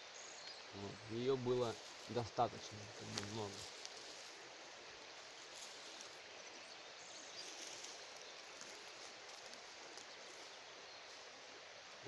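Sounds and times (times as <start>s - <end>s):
river flowing: 0.0s - 12.0s.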